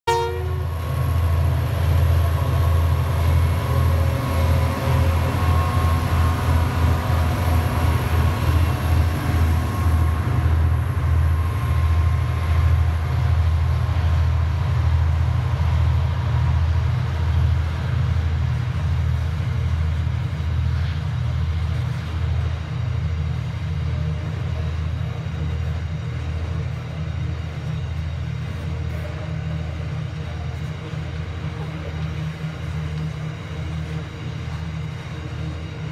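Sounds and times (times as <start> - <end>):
freight train rumbling past: 0.1 - 35.9.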